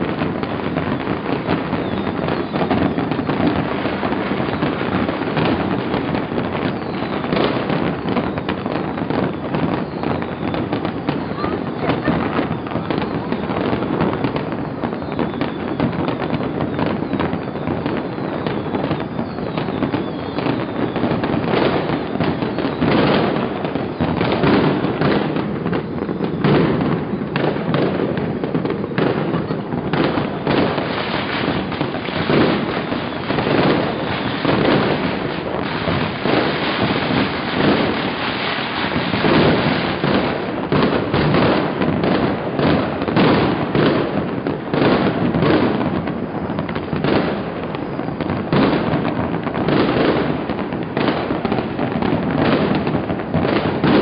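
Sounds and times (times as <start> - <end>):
fireworks and firecrackers banging: 0.0 - 54.0.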